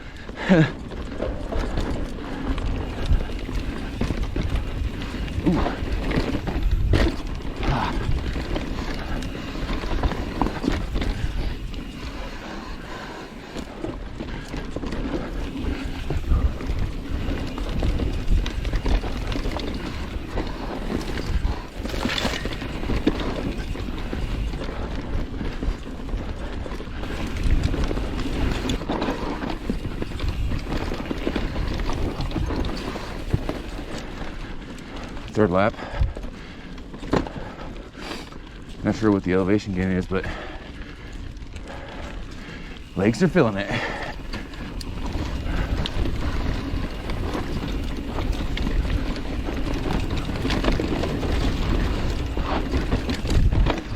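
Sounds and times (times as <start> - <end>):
bike clattering over bumps: 0.0 - 39.6, 40.2 - 53.9
bike tyres on dirt: 0.0 - 53.9.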